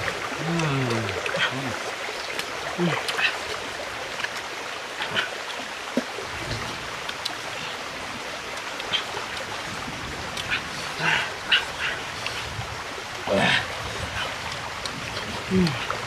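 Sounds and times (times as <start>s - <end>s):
stream water running over rocks: 0.0s - 16.0s.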